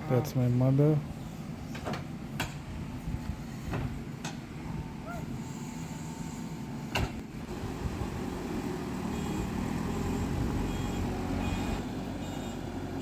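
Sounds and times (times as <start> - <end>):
backhoe engine running: 1.0 - 13.0.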